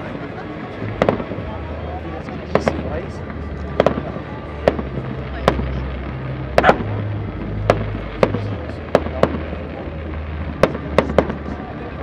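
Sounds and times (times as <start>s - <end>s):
low hum: 0.0s - 12.0s
fireworks bangs echoing: 0.8s - 12.0s.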